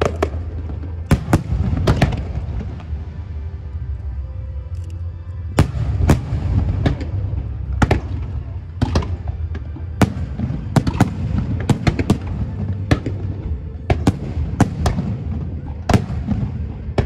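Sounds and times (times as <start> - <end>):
fireworks bangs: 0.0 - 3.0, 5.6 - 17.0
low rumble: 0.0 - 17.0.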